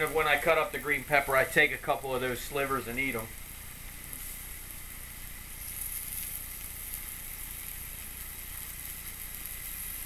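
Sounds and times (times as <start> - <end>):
meat sizzling on a grill pan: 0.0 - 10.0.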